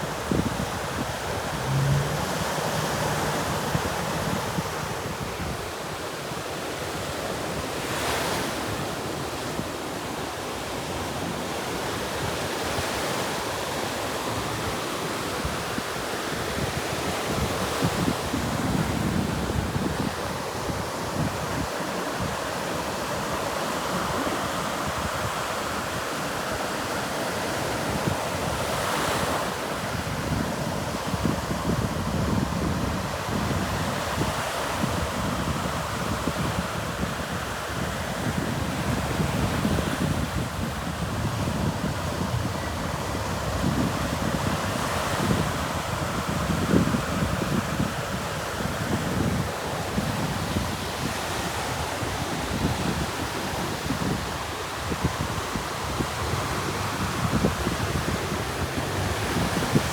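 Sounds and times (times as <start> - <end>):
ocean surf washing: 0.0 - 59.9
wind on microphone: 0.0 - 59.9.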